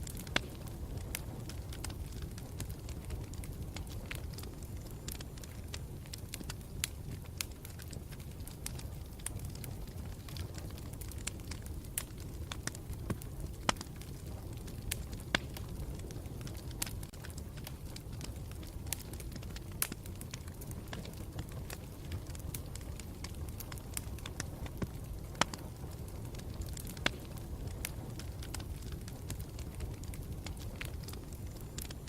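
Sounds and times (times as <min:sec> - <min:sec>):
burning wood crackling and popping: 0:00.0 - 0:32.0
campfire flames rumbling: 0:00.0 - 0:32.0.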